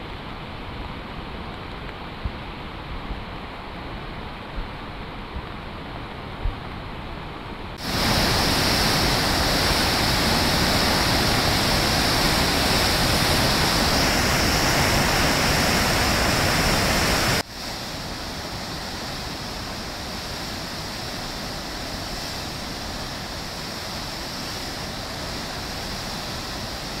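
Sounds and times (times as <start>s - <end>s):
flooded river rushing: 0.0s - 27.0s.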